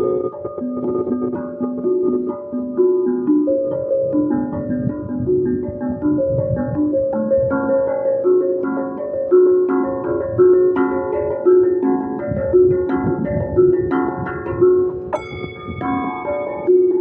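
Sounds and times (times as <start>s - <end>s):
mallet instrument melody: 0.0s - 17.0s.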